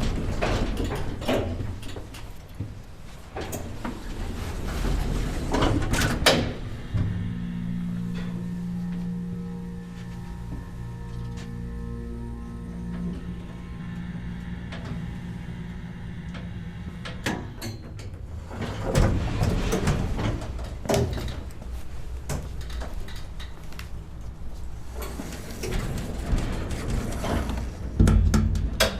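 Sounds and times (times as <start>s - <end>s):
elevator doors clunking and rattling: 0.0s - 28.9s
elevator hum: 0.0s - 28.9s.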